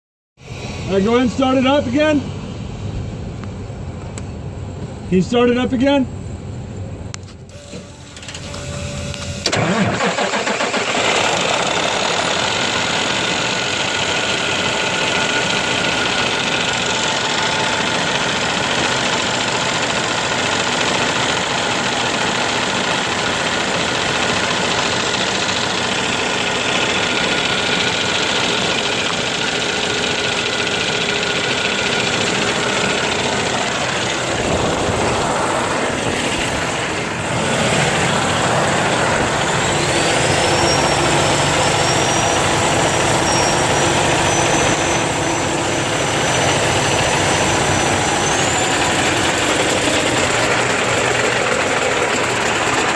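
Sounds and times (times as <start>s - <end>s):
diesel truck engine starting: 0.4s - 52.9s.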